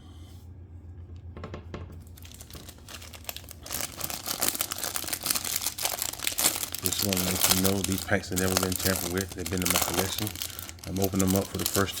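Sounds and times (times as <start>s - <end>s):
plastic wrapper crinkling: 2.0s - 12.0s
plastic wrapper tearing: 2.0s - 12.0s.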